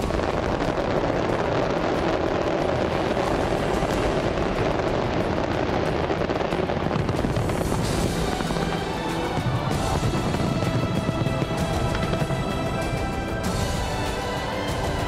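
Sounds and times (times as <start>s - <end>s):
fireworks bursting and crackling: 0.0s - 15.0s
music: 0.0s - 15.0s.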